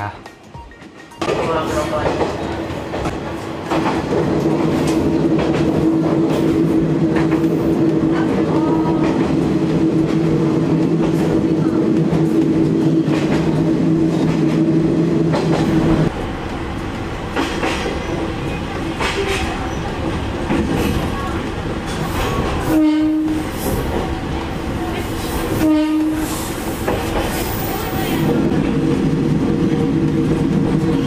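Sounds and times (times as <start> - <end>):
diesel railcar engine drone: 0.2 - 31.0.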